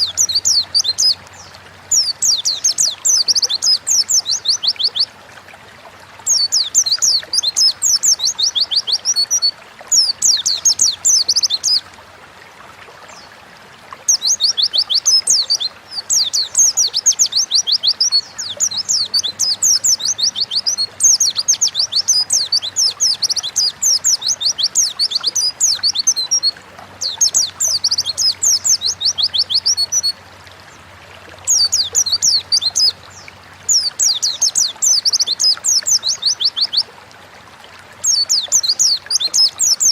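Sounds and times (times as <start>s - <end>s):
bird twittering song: 0.0s - 5.1s, 6.2s - 11.8s, 14.0s - 30.2s, 31.4s - 36.9s, 38.0s - 39.9s.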